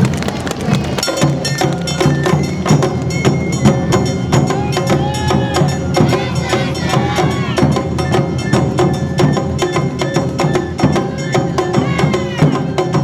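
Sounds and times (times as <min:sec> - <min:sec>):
drums: 0:00.0 - 0:13.0
sharp percussion strikes: 0:01.0 - 0:13.0
bamboo flute melody: 0:01.2 - 0:13.0.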